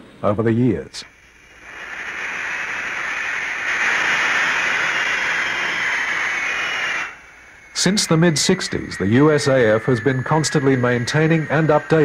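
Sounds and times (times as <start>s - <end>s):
jet engines roaring: 1.0s - 12.0s.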